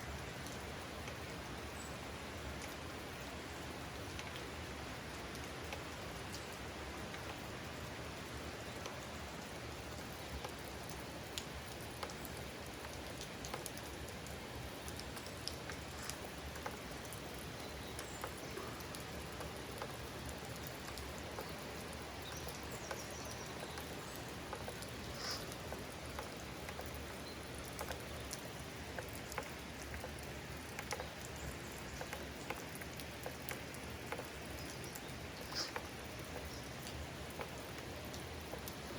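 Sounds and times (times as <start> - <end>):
raindrops ticking on surfaces: 0.0 - 38.9
steady rain hiss: 0.0 - 38.9.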